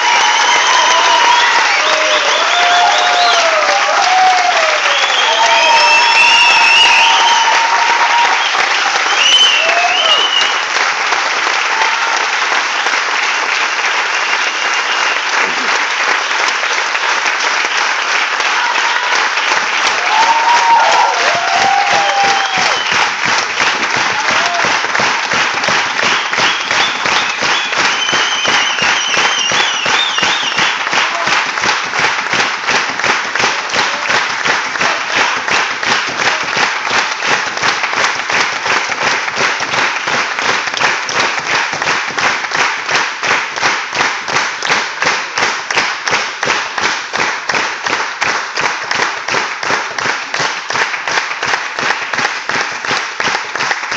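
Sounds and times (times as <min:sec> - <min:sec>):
audience applauding: 0:00.0 - 0:53.9
rhythmic clapping in unison: 0:00.0 - 0:53.9.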